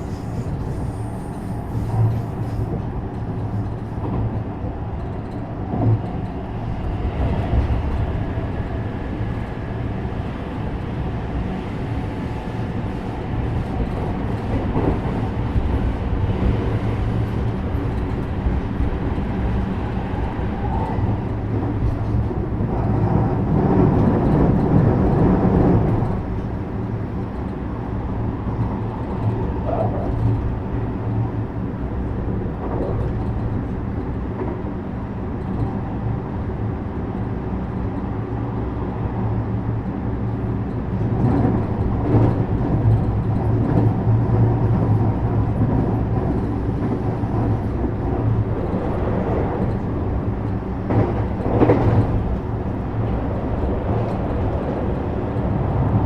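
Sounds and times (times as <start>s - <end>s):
train motor and gear hum: 0.0s - 56.0s.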